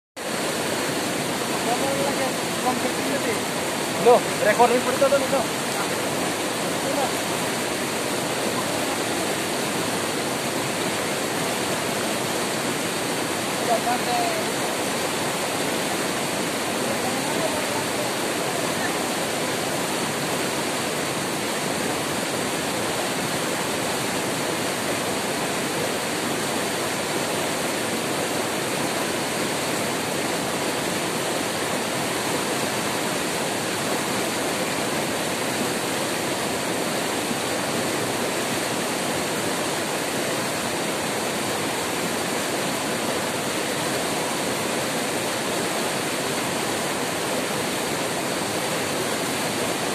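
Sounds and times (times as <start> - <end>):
river rapids rushing: 0.2 - 49.9.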